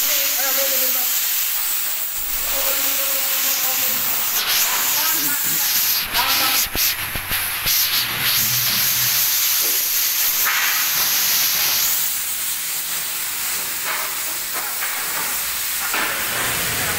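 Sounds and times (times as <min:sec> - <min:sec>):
loud steady hiss: 0:00.0 - 0:16.9.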